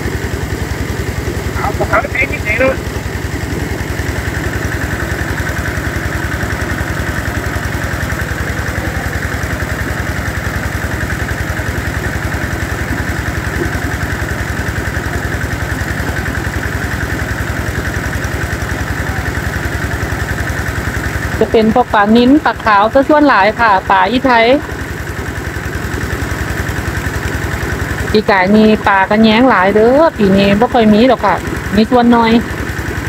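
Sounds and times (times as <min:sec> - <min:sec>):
engine-driven water pump running: 0:00.0 - 0:33.0.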